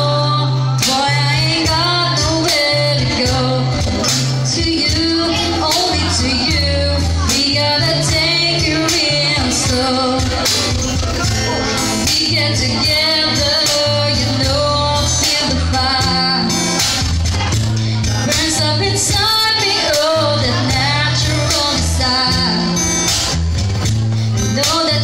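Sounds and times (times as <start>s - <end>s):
lead vocal singing: 0.0s - 17.1s, 17.9s - 23.1s
band playing a song: 0.0s - 25.0s.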